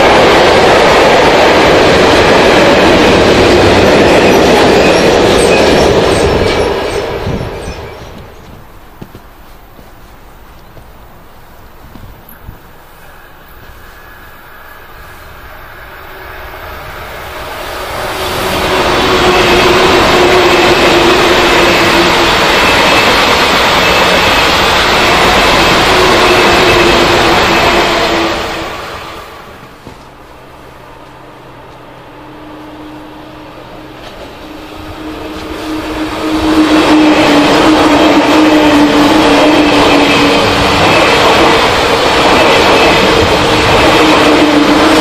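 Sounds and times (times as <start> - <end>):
train hum: 0.0 - 45.0
train wheels rushing on rail: 0.0 - 45.0.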